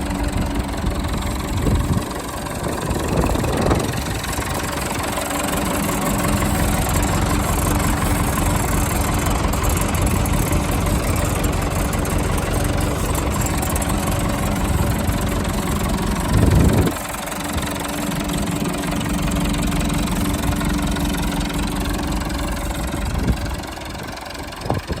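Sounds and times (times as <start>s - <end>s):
tractor diesel engine idling: 0.0s - 25.0s.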